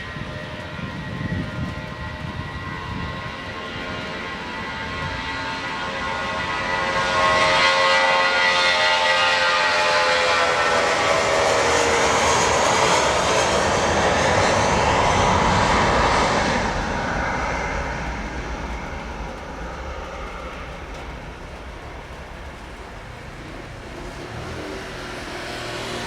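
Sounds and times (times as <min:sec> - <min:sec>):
jet engines whining at takeoff: 0:00.0 - 0:26.0.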